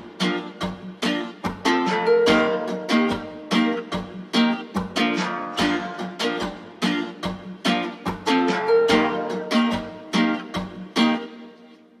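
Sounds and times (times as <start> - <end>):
strummed guitar music: 0.0 - 12.0.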